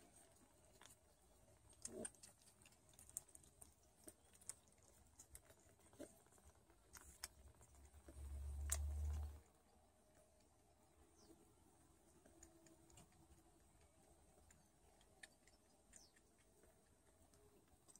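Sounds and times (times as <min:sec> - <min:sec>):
kittens suckling clicks: 0:00.0 - 0:09.6, 0:12.1 - 0:17.9.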